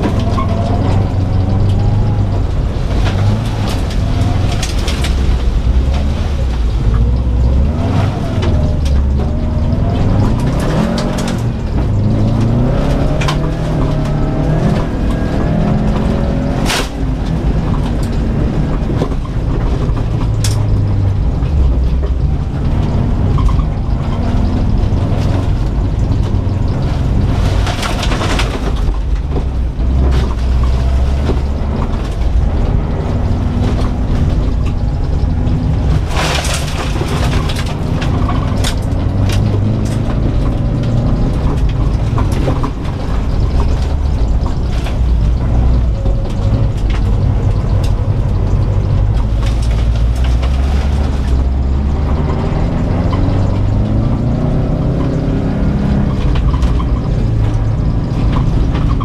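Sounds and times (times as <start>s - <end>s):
car engine pulling hard: 0.0s - 59.0s.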